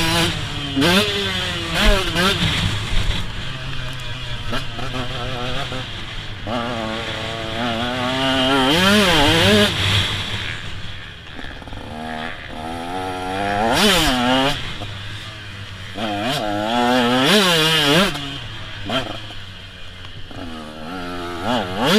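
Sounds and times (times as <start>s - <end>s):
motocross bike engine revving: 0.0s - 21.9s.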